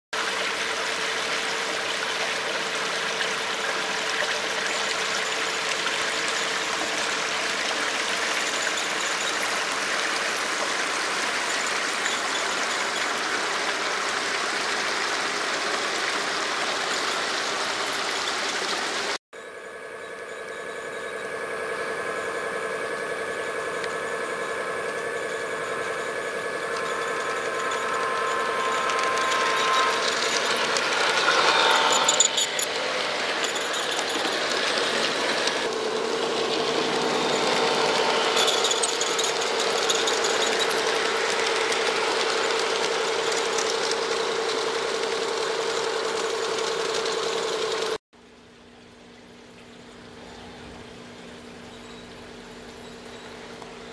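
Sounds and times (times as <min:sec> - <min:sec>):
wheels rattling over track: 0:00.2 - 0:19.2, 0:19.8 - 0:48.0
model train engine drone: 0:00.2 - 0:48.0.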